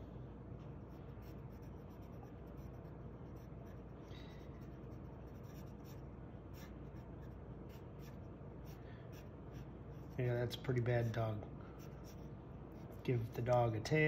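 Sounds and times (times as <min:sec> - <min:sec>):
pencil sketching on paper: 0:00.6 - 0:13.1.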